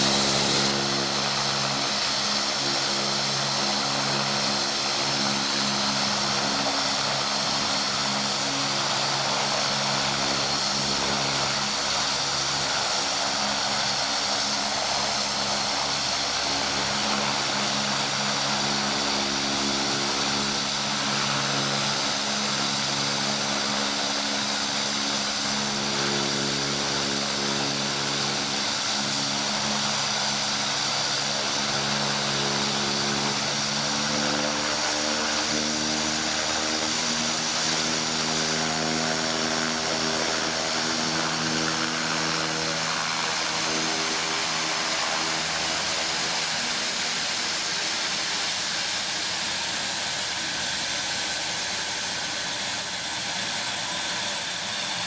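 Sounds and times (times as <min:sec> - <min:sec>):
turboprop engine running: 0:00.0 - 0:55.0.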